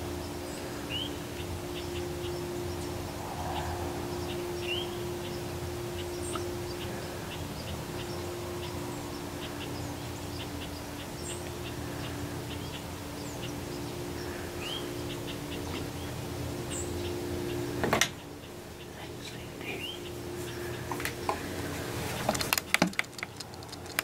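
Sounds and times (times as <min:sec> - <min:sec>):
upward-swooping bird calls: 0:00.0 - 0:22.6
birds chirping: 0:00.0 - 0:24.0
steady low hum: 0:00.0 - 0:24.0.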